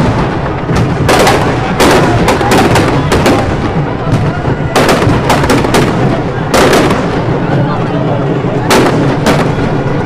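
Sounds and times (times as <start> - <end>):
crowd noise: 0.0 - 10.0
fire crackling: 0.0 - 10.0
firecrackers bursting: 0.0 - 10.0.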